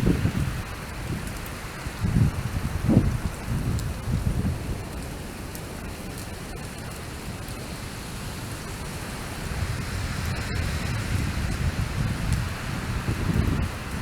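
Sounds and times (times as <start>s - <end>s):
wildfire roaring: 0.0s - 14.0s.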